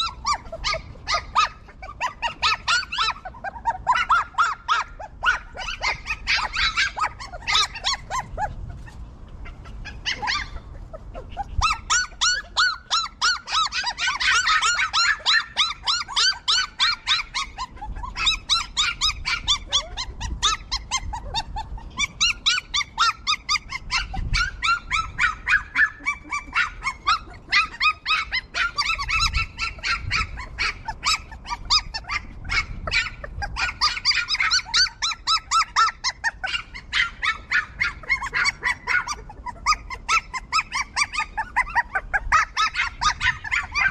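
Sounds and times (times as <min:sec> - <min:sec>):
puppies squeaking and yelping: 0:00.0 - 0:43.9.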